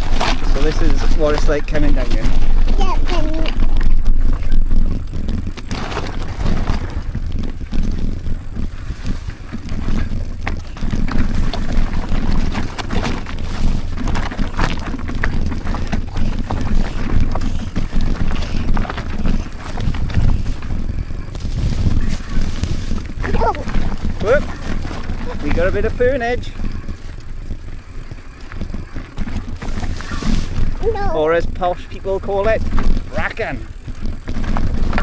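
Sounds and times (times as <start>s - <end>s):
bike rattling over bumps: 0.0s - 35.0s
tyres rumbling over stones: 0.0s - 35.0s
wind buffeting microphone: 0.0s - 35.0s.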